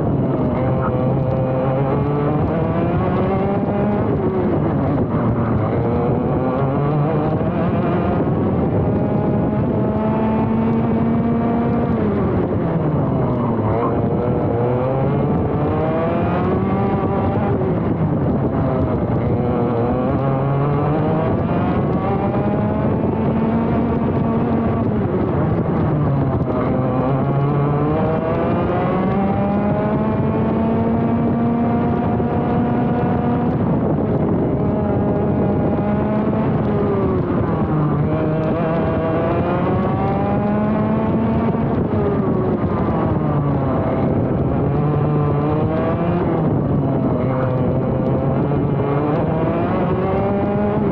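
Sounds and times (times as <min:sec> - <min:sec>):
kart engine racing: 0:00.0 - 0:50.9.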